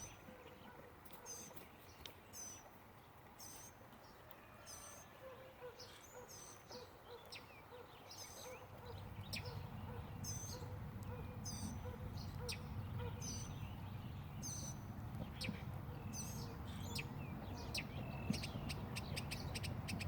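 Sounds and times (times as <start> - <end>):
birds chirping and trilling: 0.0 - 2.7, 4.6 - 20.0.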